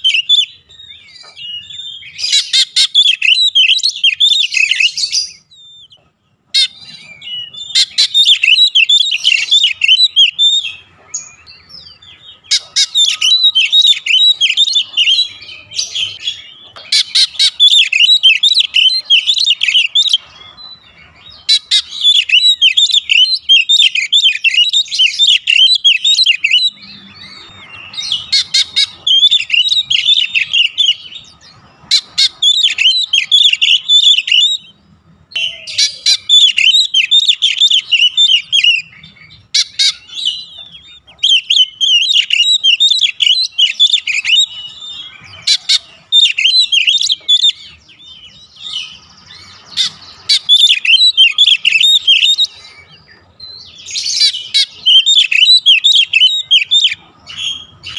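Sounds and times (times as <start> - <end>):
bird singing chirps and whistles: 0.0 - 57.9.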